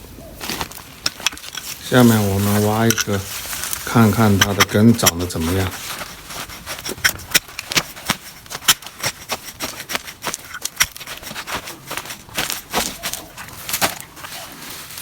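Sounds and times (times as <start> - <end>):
digging scraping soil and roots: 0.0 - 15.0.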